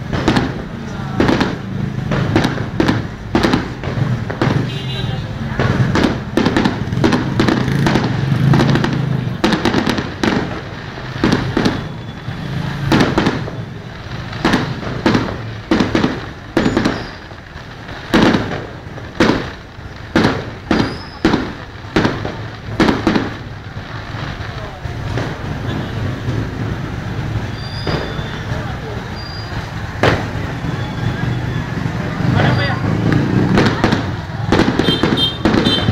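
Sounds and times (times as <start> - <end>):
fireworks bangs echoing: 0.0 - 35.9.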